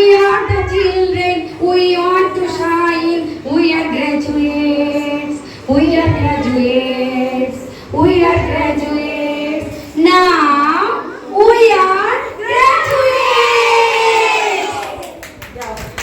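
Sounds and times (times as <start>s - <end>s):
children and woman singing: 0.0s - 13.8s.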